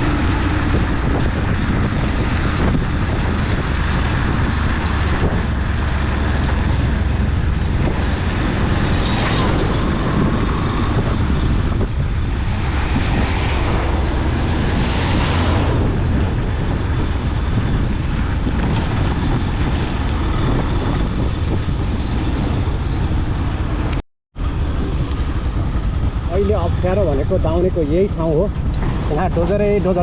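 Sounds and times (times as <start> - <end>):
vehicle road rumble: 0.0 - 30.0
wind on microphone: 0.0 - 30.0.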